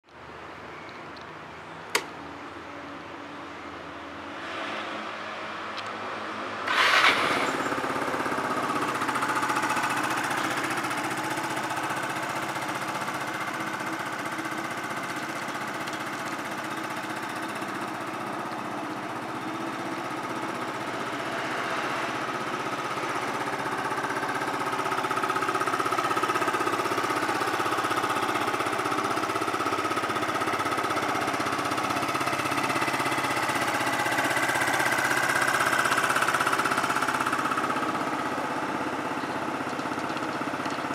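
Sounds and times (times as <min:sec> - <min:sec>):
scooter engine starting and idling: 0:01.9 - 0:02.2, 0:06.6 - 0:40.9.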